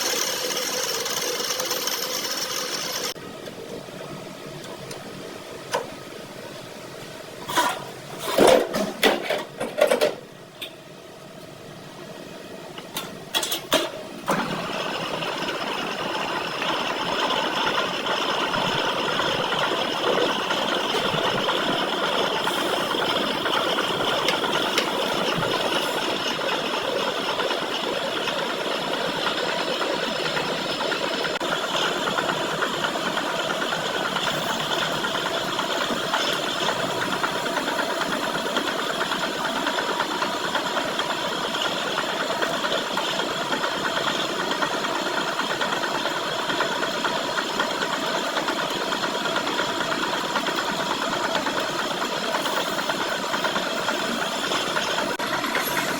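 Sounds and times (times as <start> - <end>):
metalworking lathe running: 0.0 - 5.6, 13.0 - 55.9.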